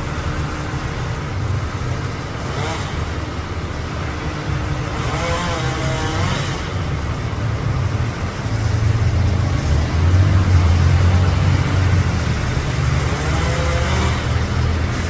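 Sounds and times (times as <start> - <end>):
large vehicle engine rumble: 0.0 - 15.0.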